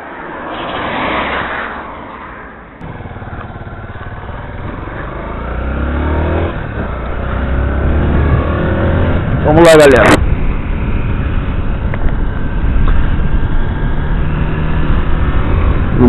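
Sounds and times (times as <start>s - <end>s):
rush of noise: 0.0s - 16.0s
motorcycle engine accelerating: 2.8s - 16.0s.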